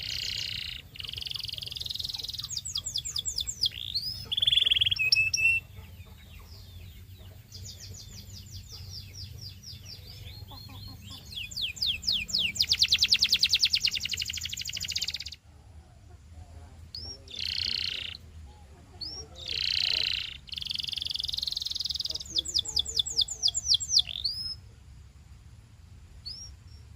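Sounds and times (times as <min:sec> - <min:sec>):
canary singing trills: 0:00.0 - 0:24.7, 0:26.2 - 0:26.9.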